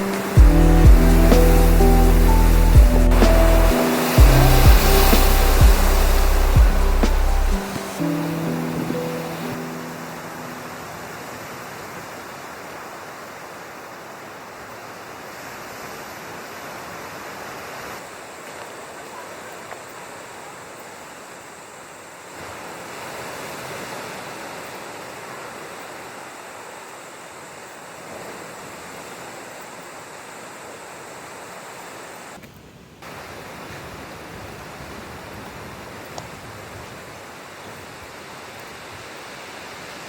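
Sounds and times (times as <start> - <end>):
rushing water: 0.0 - 32.4, 33.0 - 40.0.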